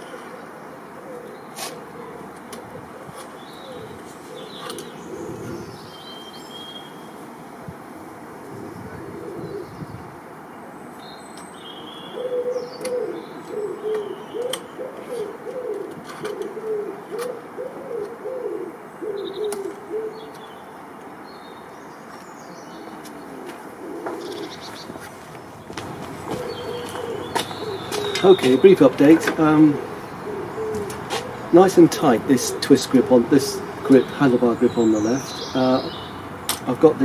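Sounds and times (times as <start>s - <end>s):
pigeon cooing: 0.0s - 6.0s, 8.5s - 9.9s, 12.0s - 20.4s, 22.7s - 37.0s
small birds chirping: 0.0s - 7.7s, 8.7s - 18.2s, 19.0s - 37.0s.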